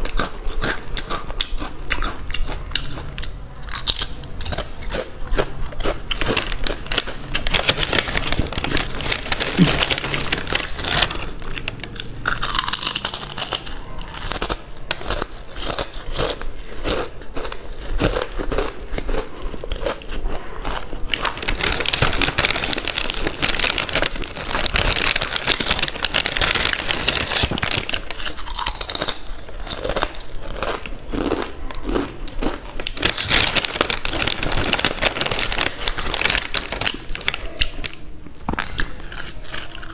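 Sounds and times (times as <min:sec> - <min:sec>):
crunching and chewing crisps: 0:00.0 - 0:39.9
plastic snack packets crinkling: 0:00.0 - 0:39.9.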